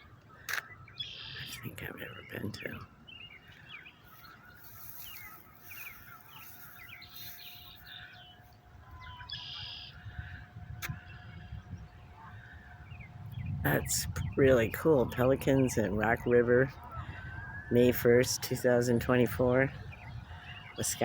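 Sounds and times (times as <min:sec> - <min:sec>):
small birds chirping: 0:00.0 - 0:10.1, 0:10.9 - 0:21.0.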